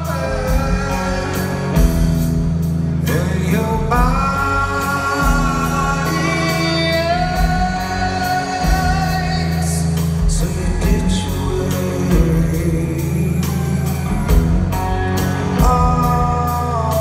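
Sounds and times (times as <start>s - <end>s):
live rock band: 0.0s - 17.0s
man singing long notes: 0.0s - 17.0s.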